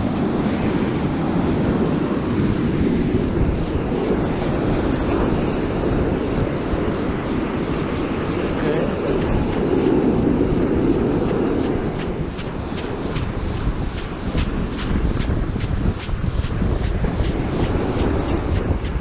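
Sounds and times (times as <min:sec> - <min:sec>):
ocean surf rushing: 0:00.0 - 0:19.0
wind buffeting microphone: 0:00.0 - 0:19.0.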